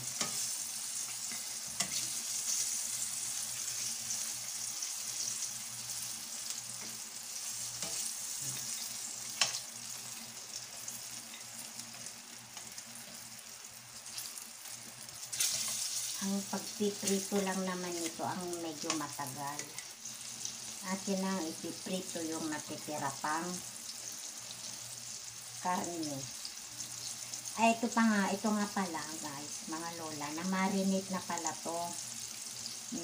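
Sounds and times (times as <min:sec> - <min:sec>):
meat sizzling in hot oil: 0:00.0 - 0:33.0.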